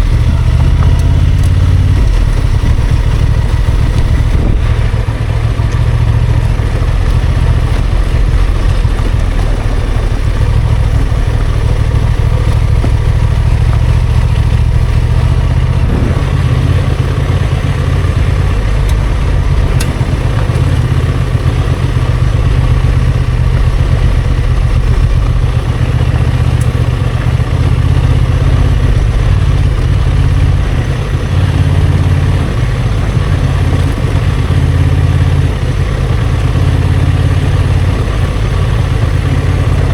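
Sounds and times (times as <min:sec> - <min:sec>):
motorcycle engine running at low revs: 0:00.0 - 0:39.9.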